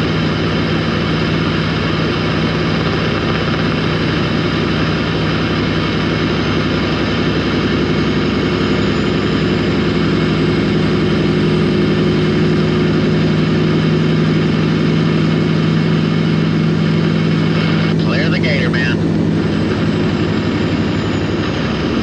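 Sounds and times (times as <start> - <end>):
diesel truck engine droning: 0.0 - 22.0
road and wind noise: 0.0 - 22.0.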